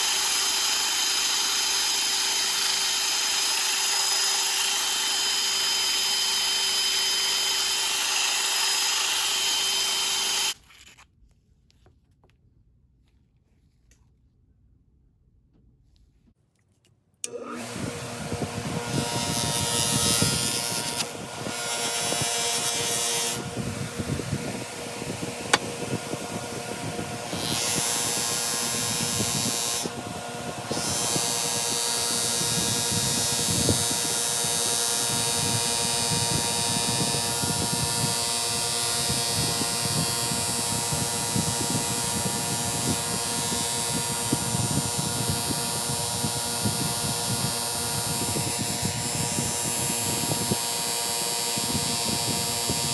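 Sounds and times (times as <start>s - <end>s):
rotary power tool running: 0.0s - 10.6s, 17.3s - 52.9s
tool grinding metal: 0.0s - 11.0s, 17.5s - 52.9s.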